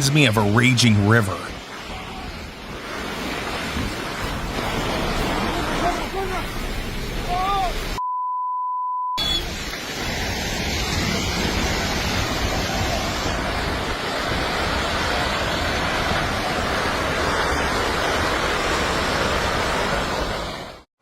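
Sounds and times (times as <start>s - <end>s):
landslide roaring: 0.0s - 8.0s, 9.2s - 20.8s.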